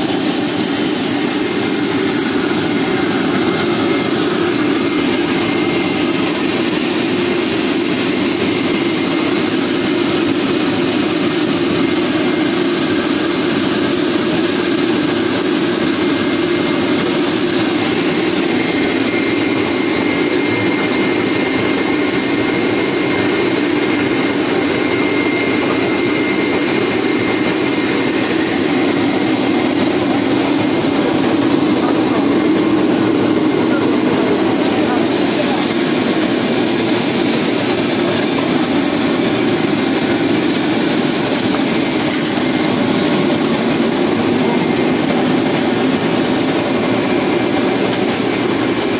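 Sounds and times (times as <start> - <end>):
extruder machine drone: 0.0 - 48.9
faint high whine: 0.0 - 48.9.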